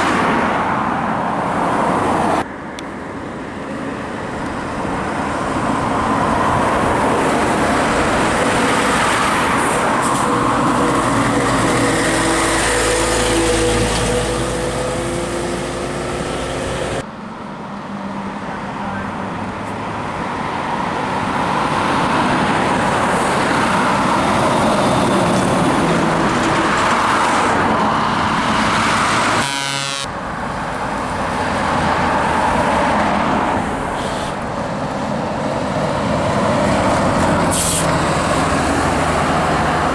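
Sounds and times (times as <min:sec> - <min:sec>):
heavy trucks driving past: 0:00.0 - 0:39.9.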